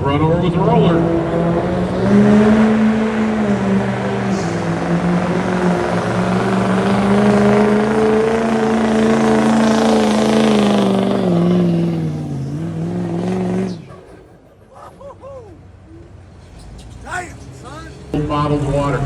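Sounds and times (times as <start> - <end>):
diesel truck engine under load: 0.0 - 19.0.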